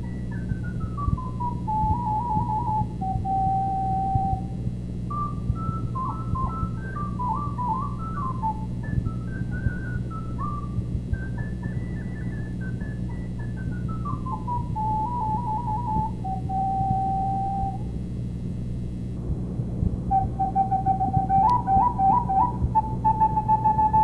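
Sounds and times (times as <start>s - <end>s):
recorder melody: 0.0s - 18.0s, 19.9s - 24.0s
low hum: 0.0s - 24.0s.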